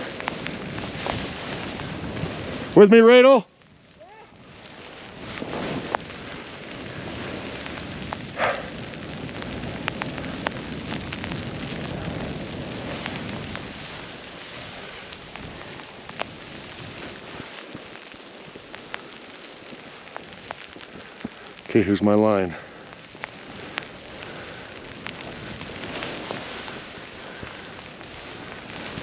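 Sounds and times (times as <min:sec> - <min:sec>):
snowboard sliding through powder snow: 0:00.0 - 0:29.0.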